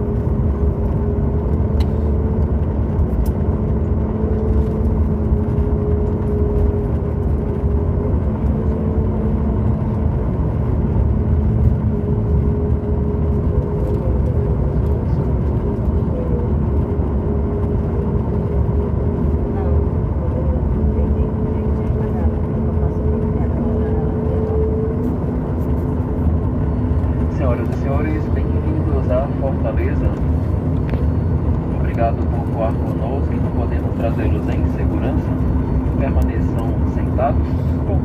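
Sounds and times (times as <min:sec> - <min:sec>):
jet engine rumble: 0:00.0 - 0:38.0.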